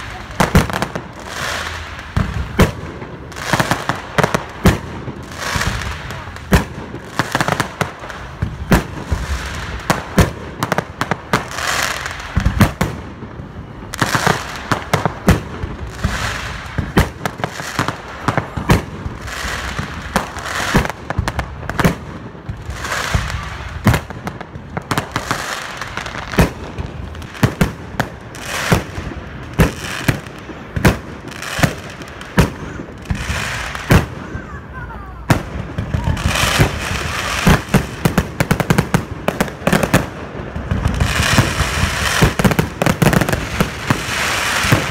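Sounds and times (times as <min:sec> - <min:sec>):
fireworks bursting: 0:00.0 - 0:44.9
fireworks crackle and hiss: 0:00.0 - 0:44.9.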